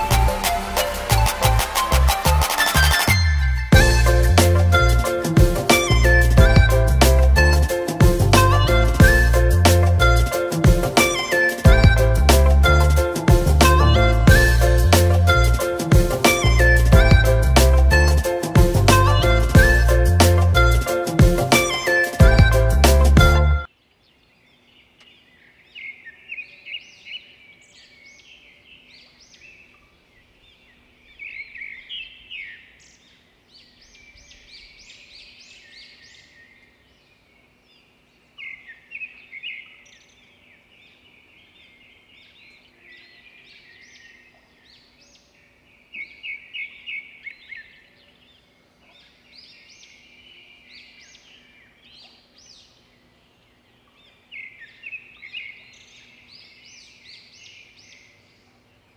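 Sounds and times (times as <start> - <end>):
small birds chirping and twittering: 0.0 - 58.9.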